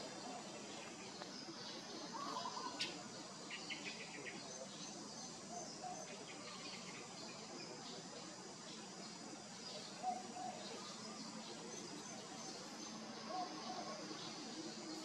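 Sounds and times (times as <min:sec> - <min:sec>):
faint bird chirps: 0:00.0 - 0:15.0
steady hiss: 0:00.0 - 0:15.0.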